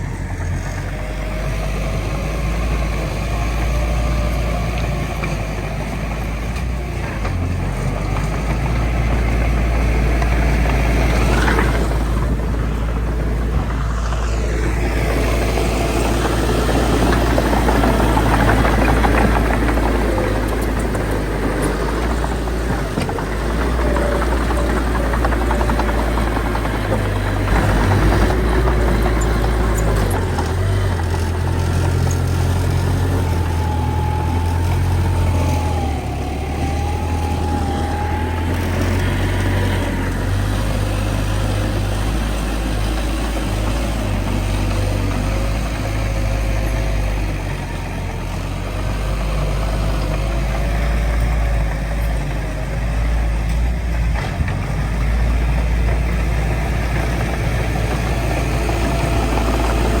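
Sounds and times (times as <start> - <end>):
heavy diesel engine droning: 0.0 - 60.0.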